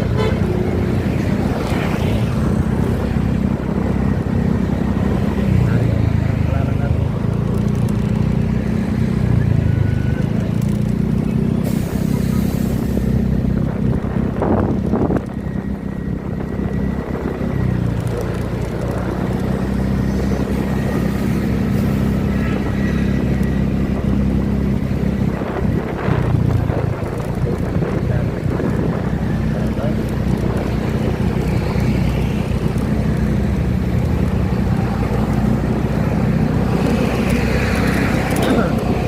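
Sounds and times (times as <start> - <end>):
wind noise: 0.0 - 6.2, 11.6 - 39.0
vehicle engine running: 0.0 - 39.0.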